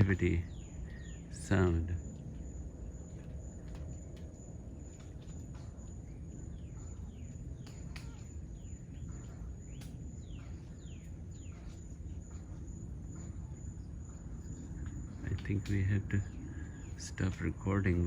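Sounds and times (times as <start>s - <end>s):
high-pitched insect whine: 0.0s - 17.9s
birds chirping: 0.0s - 18.0s
low outdoor rumble: 0.0s - 18.0s
woodpecker tapping: 0.0s - 18.0s.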